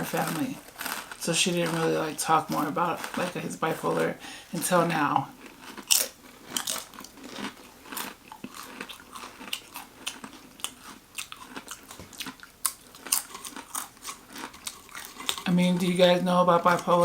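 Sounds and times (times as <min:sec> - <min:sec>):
person chewing crunchy sandwich: 0:00.0 - 0:17.0.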